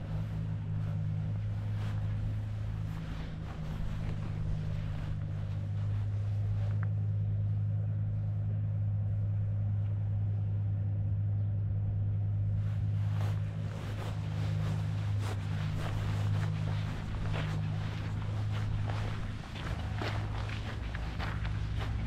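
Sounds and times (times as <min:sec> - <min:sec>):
machinery low drone: 0:00.0 - 0:22.0.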